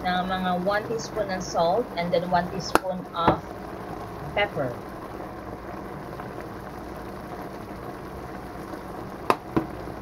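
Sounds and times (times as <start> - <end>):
tomato sauce bubbling: 0.0 - 10.0.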